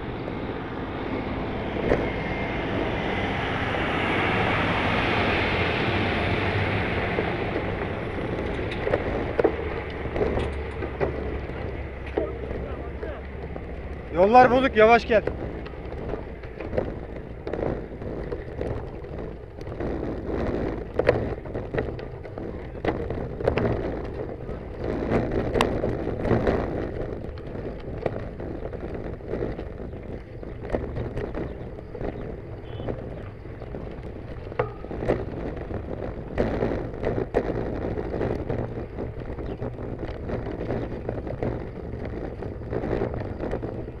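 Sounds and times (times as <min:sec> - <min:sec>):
bicycle tyres crunching on gravel: 0:00.0 - 0:44.0
bike rattling over bumps: 0:00.0 - 0:44.0
wind rumble on microphone: 0:00.0 - 0:44.0.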